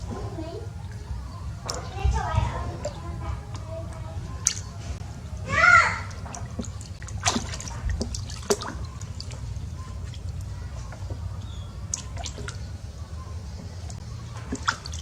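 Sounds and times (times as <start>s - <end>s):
water dripping in bathtub: 0.0s - 12.8s, 13.6s - 15.0s
steady low hum: 0.0s - 15.0s.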